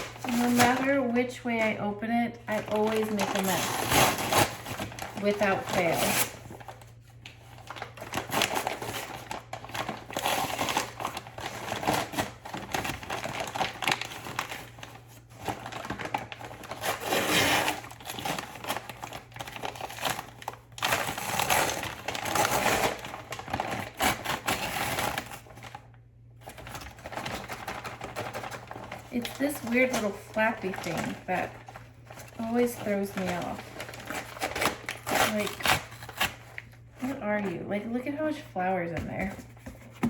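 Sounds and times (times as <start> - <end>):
paper bag crinkling: 0.0 - 1.8, 2.5 - 25.8, 26.4 - 37.6.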